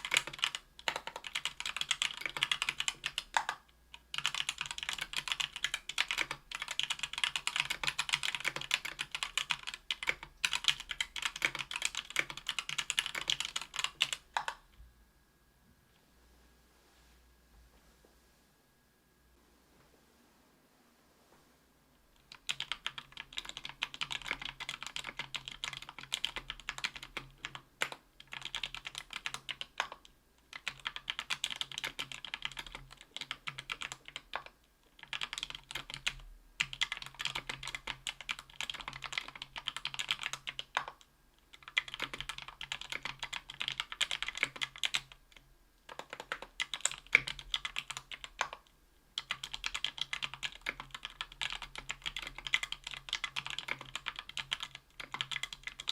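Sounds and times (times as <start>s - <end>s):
mechanical keyboard typing: 0.0s - 14.6s, 22.2s - 55.9s.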